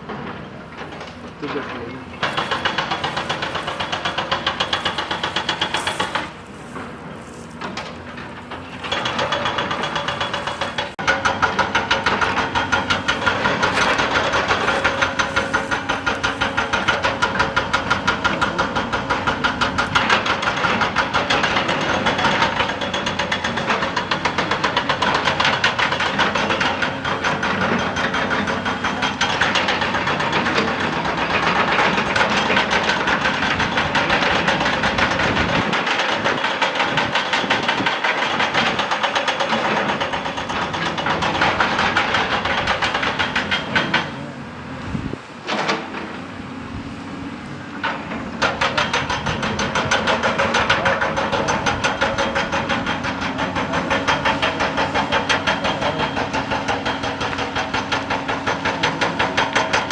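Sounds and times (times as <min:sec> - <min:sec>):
hydraulic breaker hammering rock: 0:00.0 - 0:59.9.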